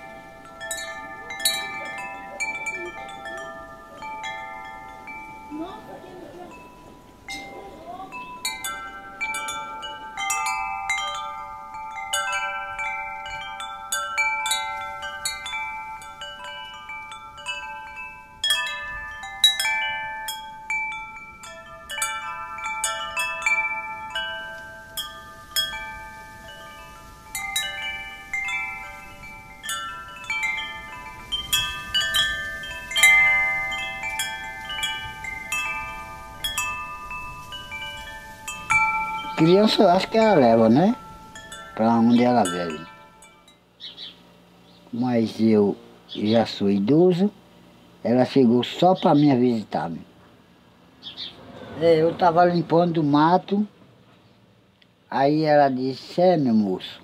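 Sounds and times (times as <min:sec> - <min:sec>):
wind chime ringing: 0:00.0 - 0:47.3.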